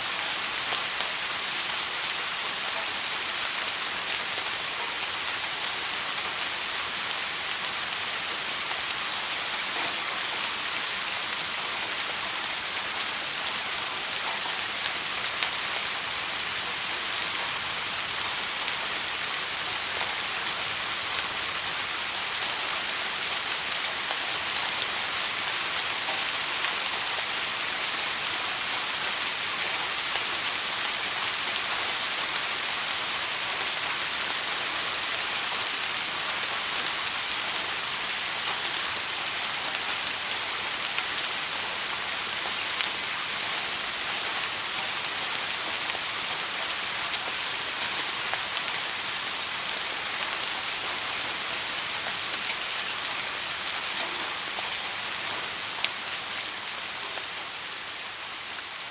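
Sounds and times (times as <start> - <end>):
soft rain falling: 0.0 - 58.9.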